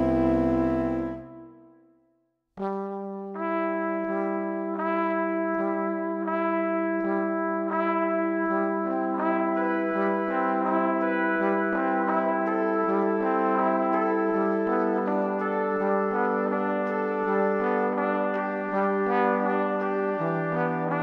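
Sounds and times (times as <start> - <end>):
brass playing slow melody: 0.0 - 1.6, 2.6 - 21.0.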